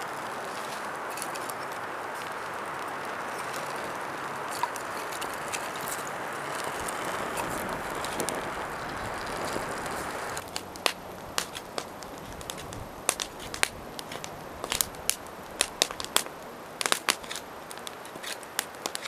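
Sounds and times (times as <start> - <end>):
fire crackles: 0.0 - 19.0
wood fire burning: 0.0 - 19.0.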